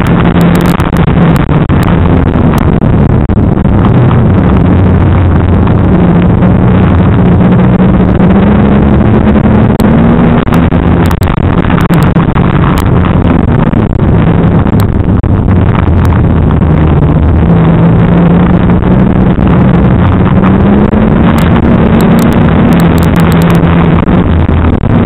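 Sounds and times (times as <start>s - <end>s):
racing car engine running hard: 0.0s - 25.0s.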